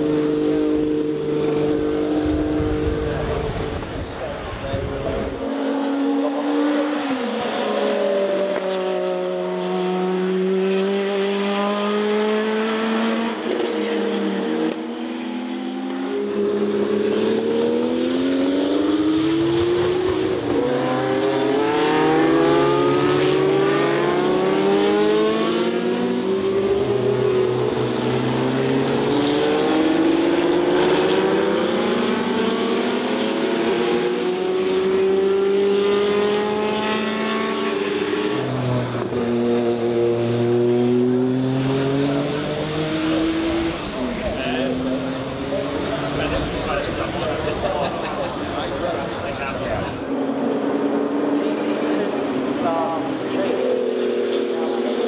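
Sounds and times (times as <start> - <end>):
race car engines accelerating: 0.0 - 55.0.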